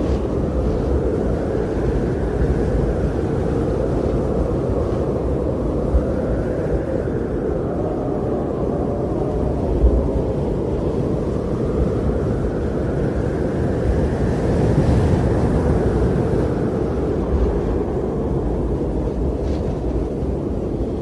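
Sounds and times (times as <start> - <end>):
blizzard wind rumbling: 0.0 - 21.0.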